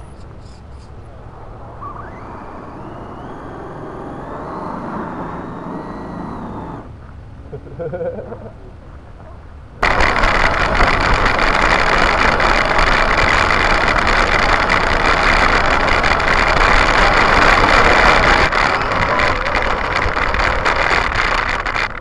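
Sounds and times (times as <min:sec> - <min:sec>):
rc truck motor running: 0:00.0 - 0:07.2, 0:09.8 - 0:22.0.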